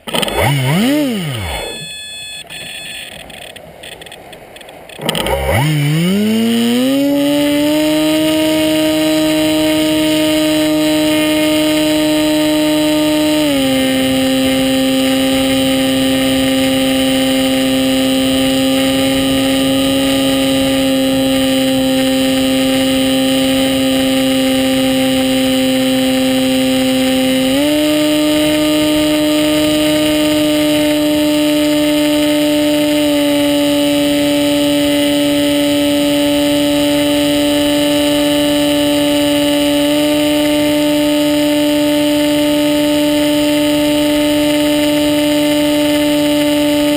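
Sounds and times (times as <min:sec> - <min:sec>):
model plane motor whining: 0:00.0 - 0:46.9.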